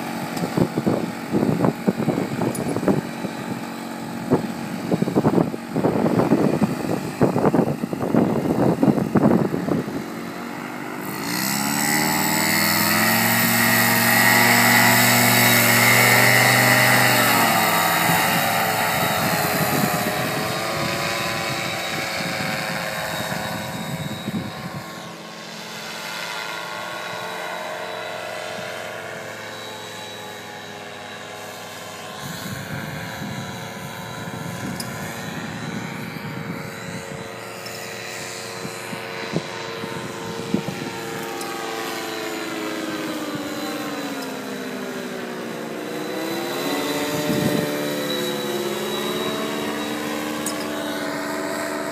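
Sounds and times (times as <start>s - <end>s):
paramotor engine droning: 0.0s - 51.9s.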